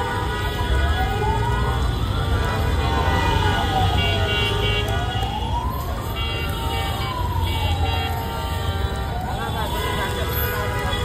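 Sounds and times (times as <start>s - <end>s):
emergency siren wailing: 0.0s - 11.0s
low traffic rumble: 0.0s - 11.0s.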